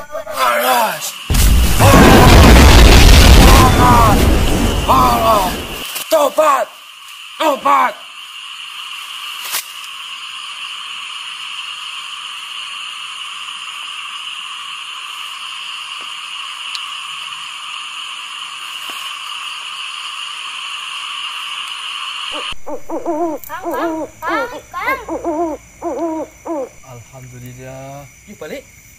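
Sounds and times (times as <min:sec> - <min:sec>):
high-pitched hissing drone: 0:00.0 - 0:28.6.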